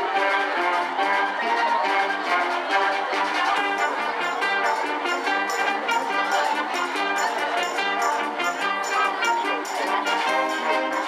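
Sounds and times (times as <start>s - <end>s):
wind band playing: 0.0s - 11.0s.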